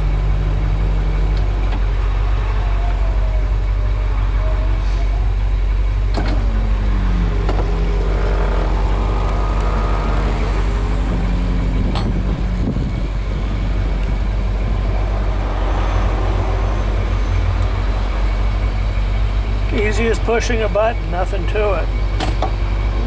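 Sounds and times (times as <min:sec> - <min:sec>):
car engine idling: 0:00.0 - 0:23.0
convertible top motor whine: 0:00.0 - 0:23.0.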